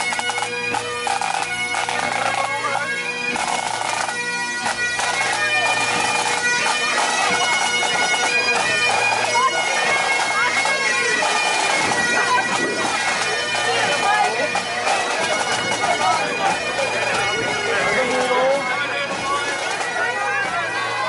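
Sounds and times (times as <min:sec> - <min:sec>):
bagpipes playing a tune: 0:00.0 - 0:21.0.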